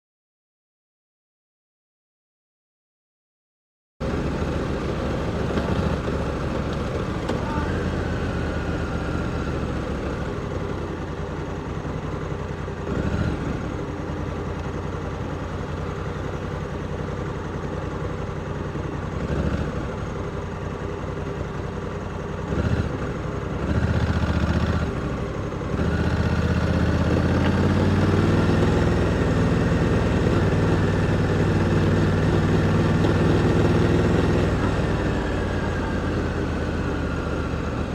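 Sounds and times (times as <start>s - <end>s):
motorcycle engine running: 4.0s - 37.9s.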